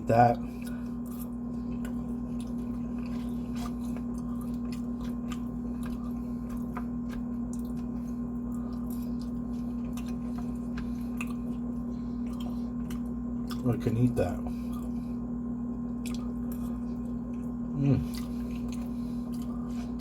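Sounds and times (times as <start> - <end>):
steady low hum: 0.0 - 20.0
person chewing food: 0.4 - 13.7, 14.4 - 20.0.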